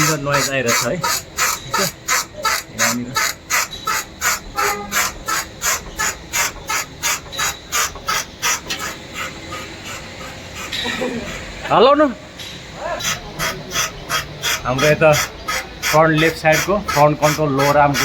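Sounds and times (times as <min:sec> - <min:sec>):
suspension arm squeaking: 0:00.0 - 0:18.0.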